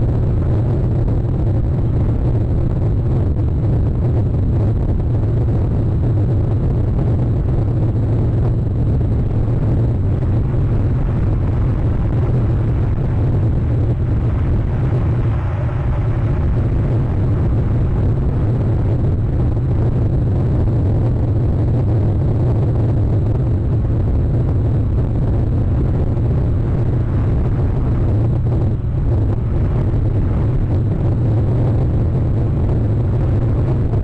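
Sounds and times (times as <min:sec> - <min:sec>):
loud low rumble: 0:00.0 - 0:34.0.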